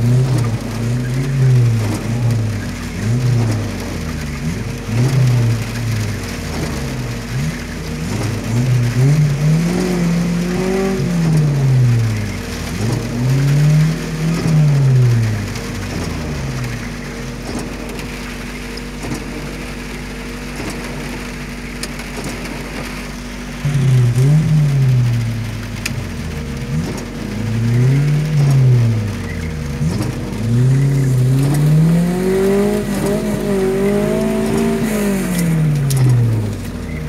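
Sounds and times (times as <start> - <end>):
jeep engine revving: 0.0 - 37.0
steady engine hum: 0.0 - 37.0.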